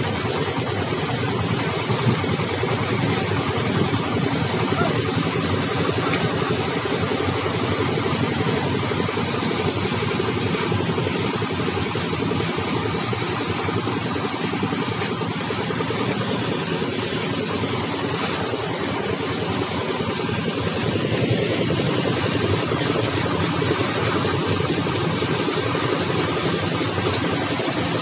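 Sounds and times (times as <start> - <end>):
concrete mixer engine running: 0.0 - 28.0
wet concrete pouring down chute: 0.0 - 28.0.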